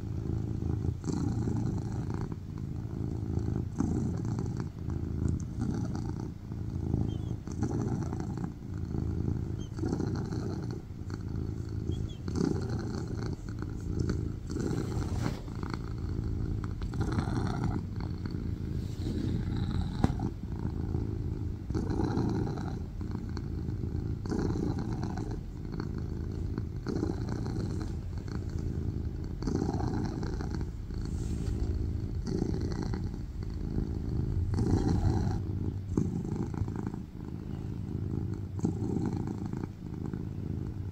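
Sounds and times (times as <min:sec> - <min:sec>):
cat purring loudly: 0:00.0 - 0:40.9.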